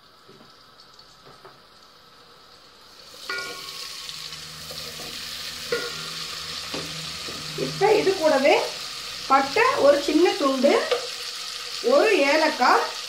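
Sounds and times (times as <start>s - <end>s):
butter and oil sizzling: 0.0s - 13.0s.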